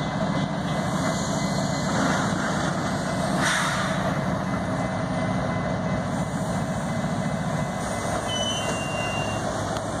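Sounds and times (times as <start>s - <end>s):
locomotive engine rumble: 0.0s - 10.0s.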